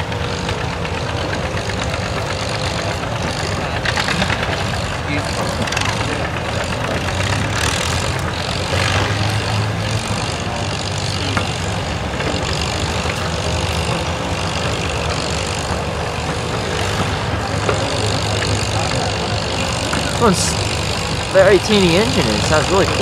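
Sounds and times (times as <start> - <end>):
outdoor noise: 0.0 - 23.0
tractor engine droning: 0.0 - 23.0.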